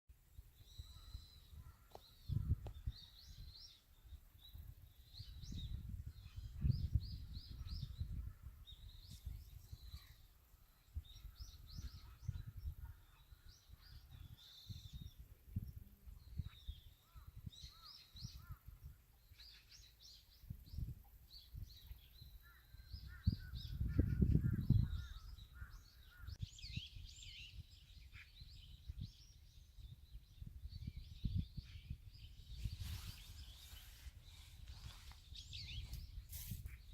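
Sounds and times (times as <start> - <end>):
small birds chirping: 0.4 - 36.9.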